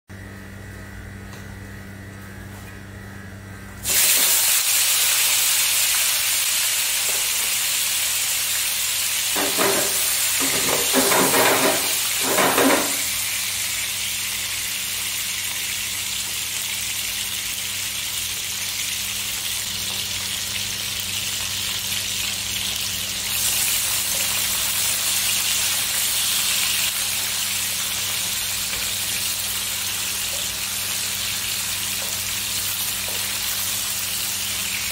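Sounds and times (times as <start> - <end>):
fish sizzling in hot oil: 3.8 - 34.9.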